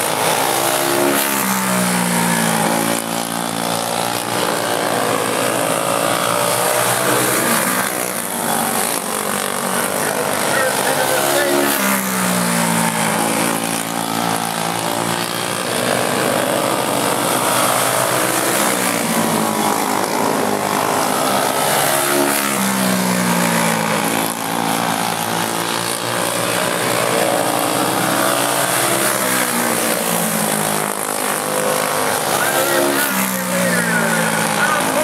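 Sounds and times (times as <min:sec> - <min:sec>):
kart engines buzzing: 0:00.0 - 0:35.0.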